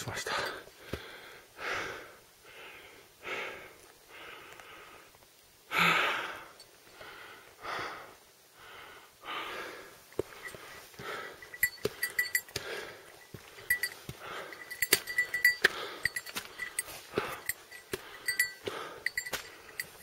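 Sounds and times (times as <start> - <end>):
heavy breathing: 0.2 - 20.0.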